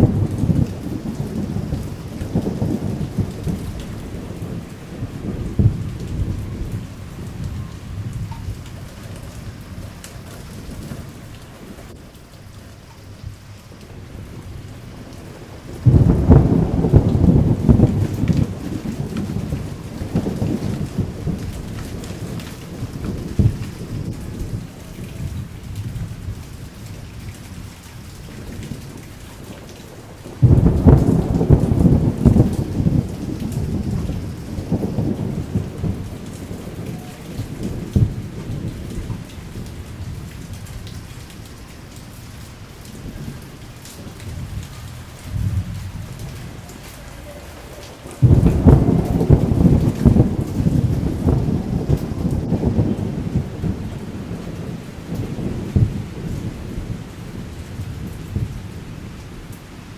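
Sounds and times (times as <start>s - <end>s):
rain falling: 0.0s - 59.9s
rolling thunder: 0.0s - 59.9s.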